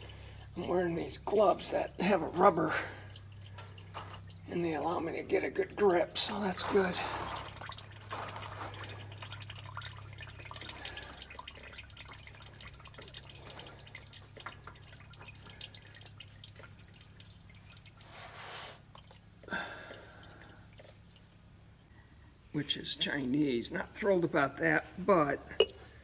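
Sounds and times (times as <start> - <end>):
oil splashing: 0.0 - 21.7
oil dripping into drain pan: 0.0 - 21.8.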